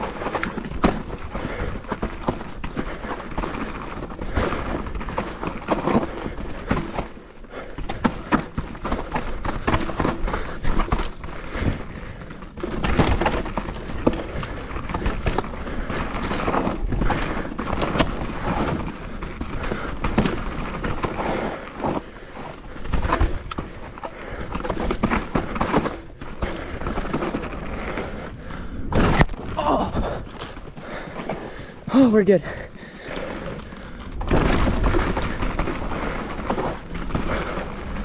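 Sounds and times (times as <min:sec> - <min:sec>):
bike clunks and rattles: 0:00.0 - 0:38.0
bike tyres on dirt and rocks: 0:00.0 - 0:38.0.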